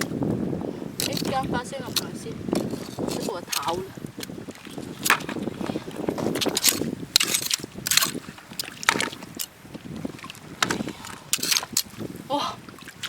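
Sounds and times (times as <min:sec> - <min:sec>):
seawater sloshing: 0:00.0 - 0:13.0
sharp water splashes: 0:01.0 - 0:13.0.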